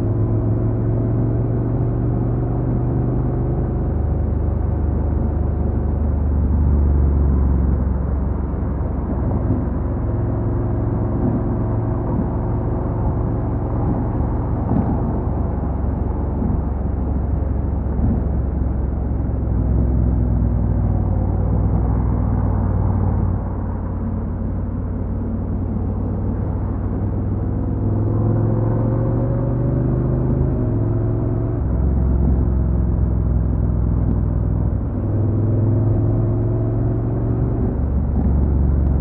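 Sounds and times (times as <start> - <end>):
motorcycle engine running: 5.0 - 39.0.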